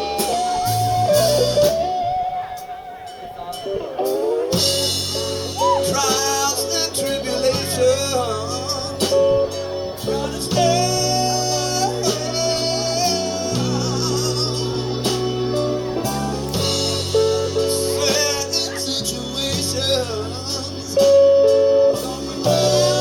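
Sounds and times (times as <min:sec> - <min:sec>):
bass notes: 0:00.0 - 0:23.0
bending lead line: 0:00.0 - 0:23.0
blues band playing: 0:00.0 - 0:23.0.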